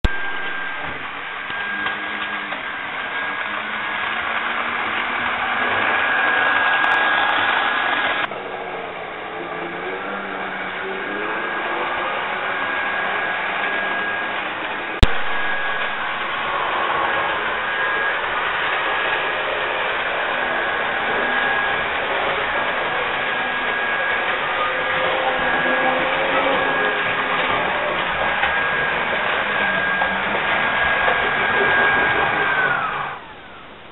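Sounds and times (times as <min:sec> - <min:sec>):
faint high whine: 0:00.0 - 0:33.9
model train electric whirring: 0:00.2 - 0:08.7, 0:09.3 - 0:33.4.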